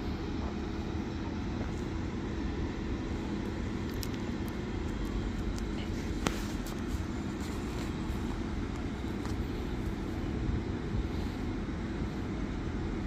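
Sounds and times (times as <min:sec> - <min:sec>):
diesel train rumbling: 0:00.0 - 0:13.0
faint constant hum: 0:00.0 - 0:13.0.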